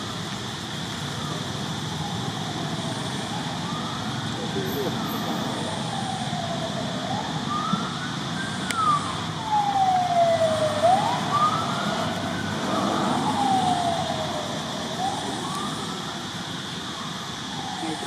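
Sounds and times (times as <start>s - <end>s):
wailing siren: 0.0s - 18.0s.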